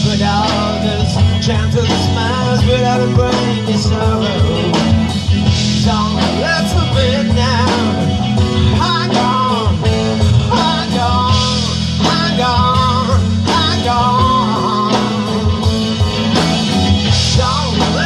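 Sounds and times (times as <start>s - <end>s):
lead guitar bending notes: 0.0s - 18.0s
live rock band playing: 0.0s - 18.0s.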